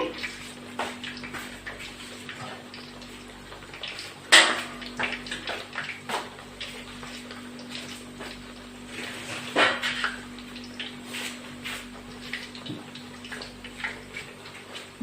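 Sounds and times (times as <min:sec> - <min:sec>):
patties sizzling in frying pan: 0:00.0 - 0:15.0.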